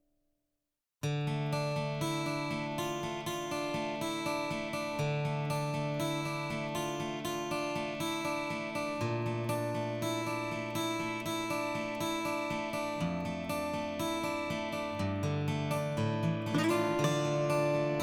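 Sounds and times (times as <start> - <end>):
acoustic guitar strumming: 1.0 - 18.0.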